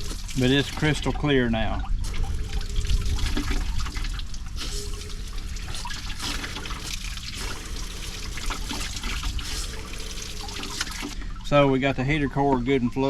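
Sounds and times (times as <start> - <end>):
water splashing from hose: 0.0 - 1.4, 2.0 - 11.2.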